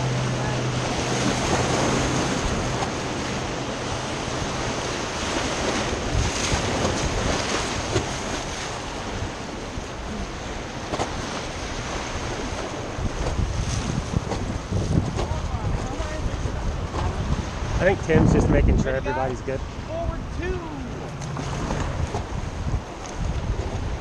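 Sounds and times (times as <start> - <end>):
whitewater rushing: 0.0 - 13.1, 15.0 - 23.0.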